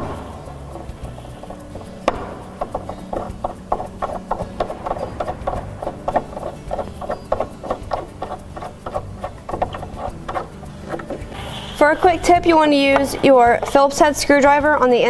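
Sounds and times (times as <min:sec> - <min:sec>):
knob scraping turns: 0:00.0 - 0:15.0.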